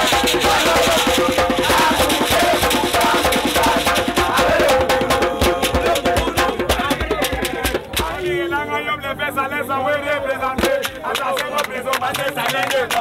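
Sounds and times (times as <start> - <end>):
fast clicking percussion beat: 0.0 - 8.2, 10.6 - 13.0.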